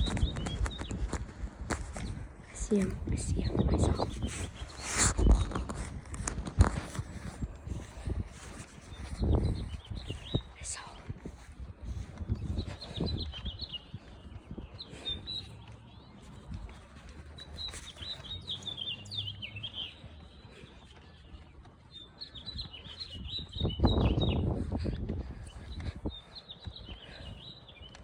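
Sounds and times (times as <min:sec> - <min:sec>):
songbirds chirping and twittering: 0:00.0 - 0:28.0.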